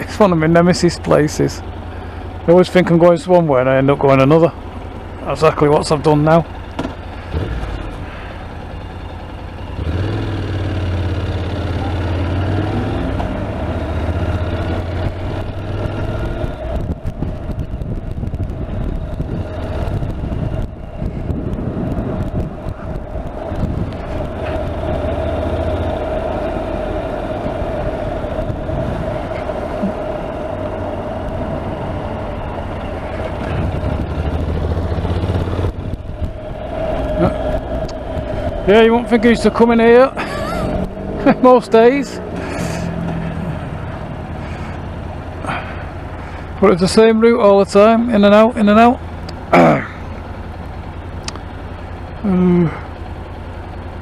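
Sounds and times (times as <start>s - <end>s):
motorcycle engine running: 0.0s - 54.0s
traffic noise: 0.0s - 54.0s
wind: 0.0s - 54.0s.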